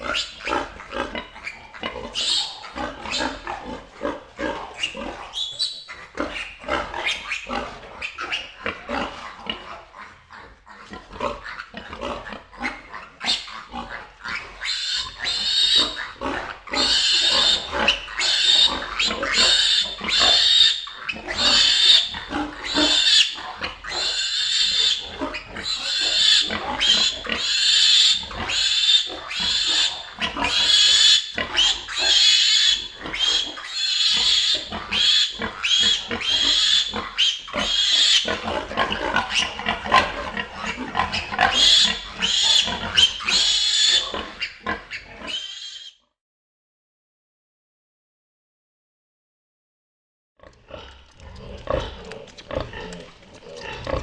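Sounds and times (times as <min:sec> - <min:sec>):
pigs grunting: 0:00.0 - 0:45.9, 0:50.4 - 0:54.0
pigs squealing: 0:00.0 - 0:46.0, 0:50.7 - 0:54.0.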